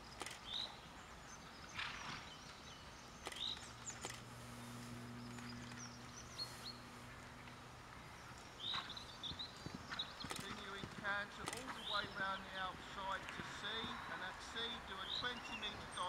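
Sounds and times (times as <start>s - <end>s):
low steady hum: 0.0s - 16.0s
small birds chirping: 0.0s - 16.0s.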